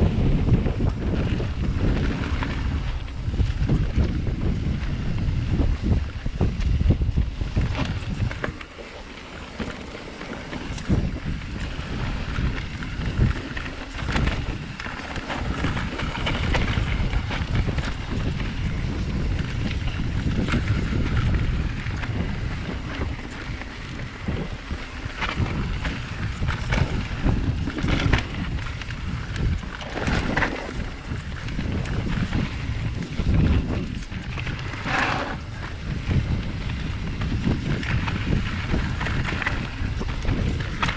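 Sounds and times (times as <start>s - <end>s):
bike knocks and rattles: 0.0s - 40.9s
tyres on loose dirt: 0.0s - 40.9s
wind rumbling on microphone: 0.0s - 40.9s.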